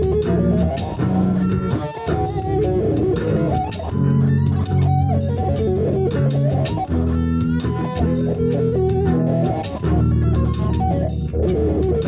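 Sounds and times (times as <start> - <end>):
bluesy electric guitar lead: 0.0 - 12.0
drums: 0.0 - 12.0
sustained bass notes: 0.0 - 12.0.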